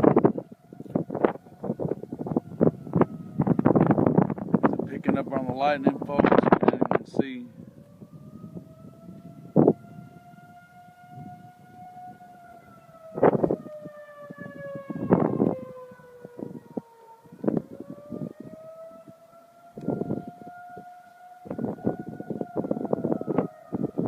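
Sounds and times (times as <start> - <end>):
tornado warning siren wailing: 0.0 - 24.0.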